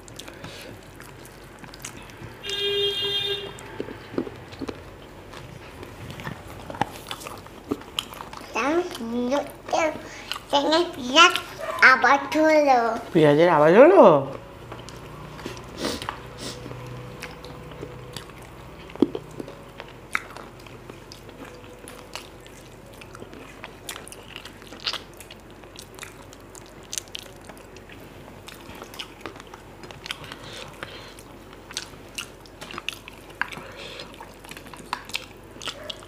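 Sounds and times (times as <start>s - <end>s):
chewing and biting: 0.0s - 2.5s, 3.5s - 10.6s, 14.4s - 36.0s.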